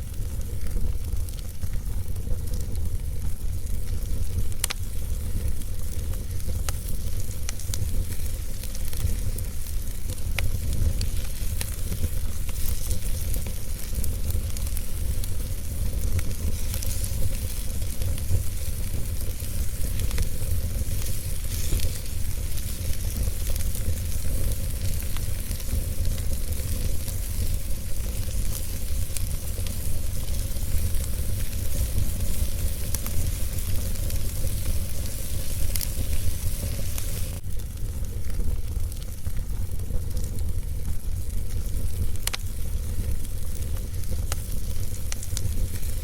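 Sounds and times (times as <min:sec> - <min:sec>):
fire crackling and popping: 0:00.0 - 0:46.0
low rumble and hiss: 0:00.0 - 0:46.0.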